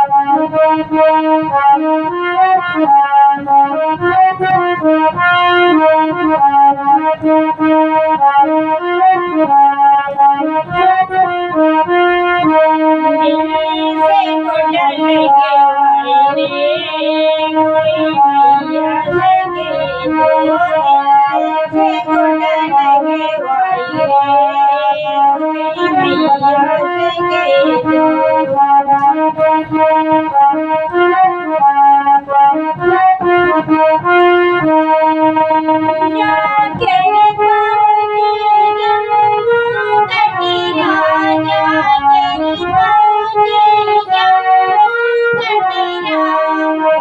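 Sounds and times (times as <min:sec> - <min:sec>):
keyboard devotional melody: 0:00.0 - 0:47.0.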